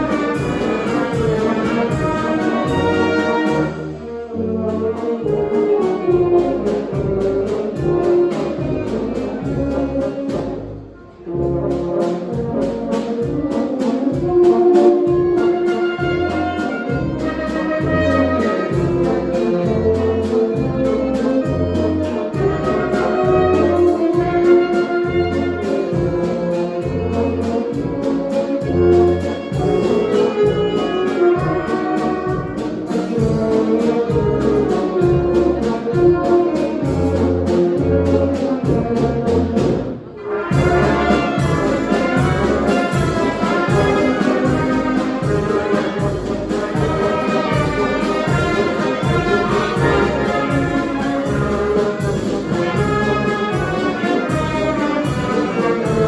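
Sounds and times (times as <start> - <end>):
brass band playing a waltz: 0.0 - 56.0.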